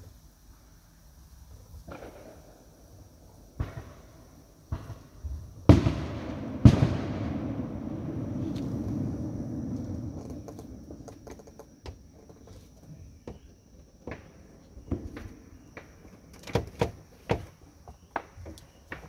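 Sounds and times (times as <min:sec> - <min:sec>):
fireworks burst rumble: 0:00.0 - 0:19.0
high insect trill: 0:00.0 - 0:19.0
distant fireworks pops: 0:01.8 - 0:19.0.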